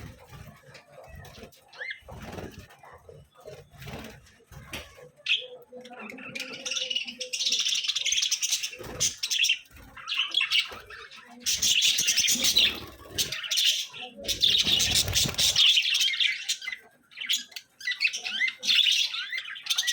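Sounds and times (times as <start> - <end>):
budgerigars chattering and warbling: 0.0 - 19.9.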